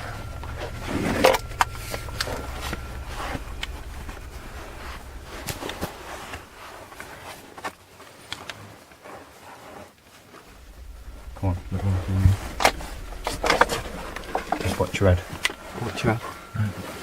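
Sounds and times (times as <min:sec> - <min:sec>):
low rumble: 0:00.0 - 0:07.5, 0:10.5 - 0:17.0.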